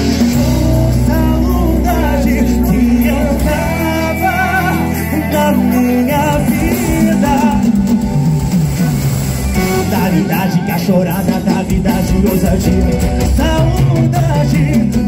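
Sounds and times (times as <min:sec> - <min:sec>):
dance music with singing: 0:00.0 - 0:15.0.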